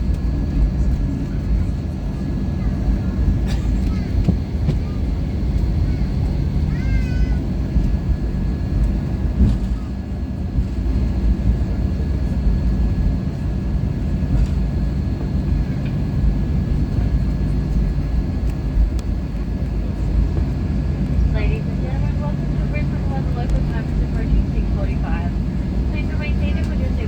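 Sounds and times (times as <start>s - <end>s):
airliner cabin rumble: 0.0s - 27.0s
faint steady whine: 3.8s - 27.0s.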